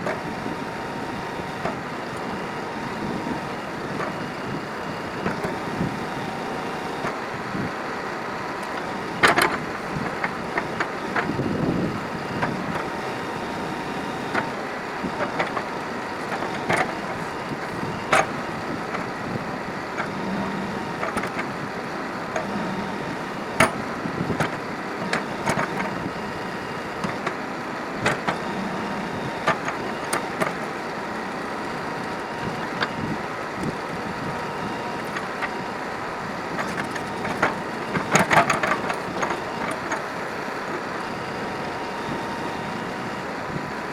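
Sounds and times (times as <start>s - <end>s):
backhoe loader running: 0.0s - 43.9s.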